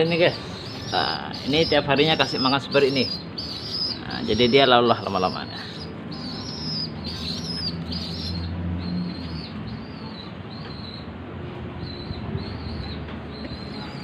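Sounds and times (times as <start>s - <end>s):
pigeon chicks peeping: 0.0s - 14.0s.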